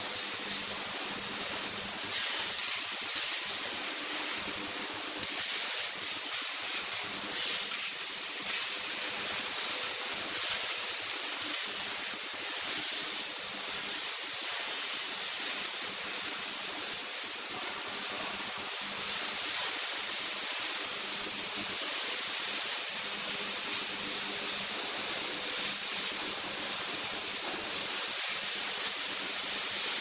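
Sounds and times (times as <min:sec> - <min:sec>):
furnace rushing hiss: 0:00.0 - 0:13.1, 0:18.2 - 0:21.0, 0:21.6 - 0:30.0
high-pitched machine whine: 0:00.0 - 0:30.0.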